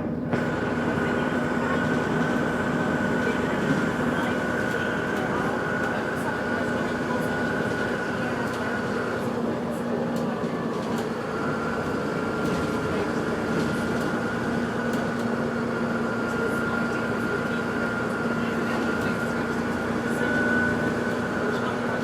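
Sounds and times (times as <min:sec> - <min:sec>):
vehicle running rumble: 0:00.0 - 0:22.0.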